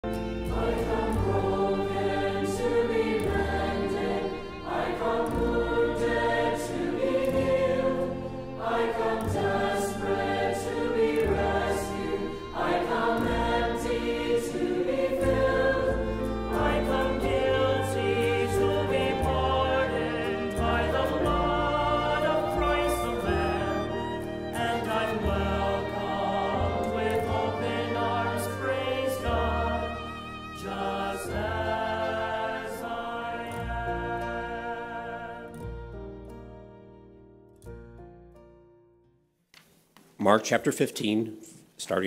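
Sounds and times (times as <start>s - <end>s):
choir singing: 0.0s - 36.1s
instrumental backing: 0.0s - 38.7s.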